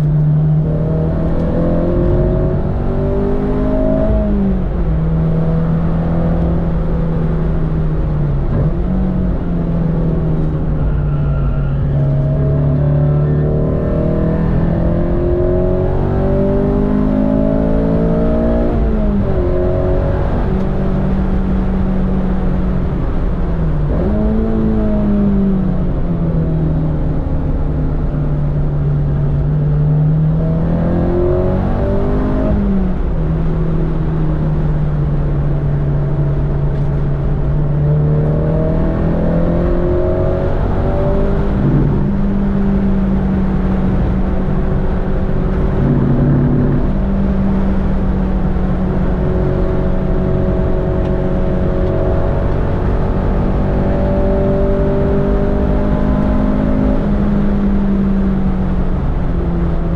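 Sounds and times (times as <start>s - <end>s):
car engine revving: 0.0s - 59.9s
road and tyre noise: 0.0s - 59.9s.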